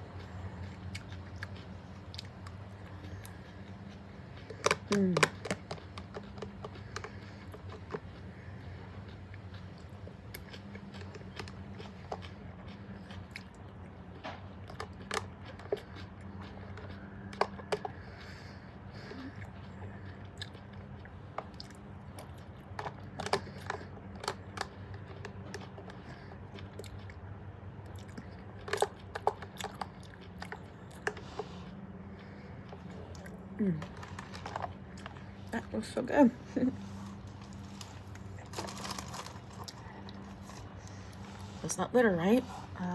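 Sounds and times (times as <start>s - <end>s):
biting and chewing crunches: 0.0s - 42.9s
low steady hum: 0.0s - 42.9s.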